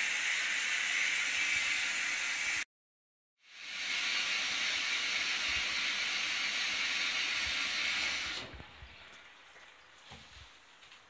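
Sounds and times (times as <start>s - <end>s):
water hissing into washing machine: 0.0s - 2.7s, 3.4s - 11.0s.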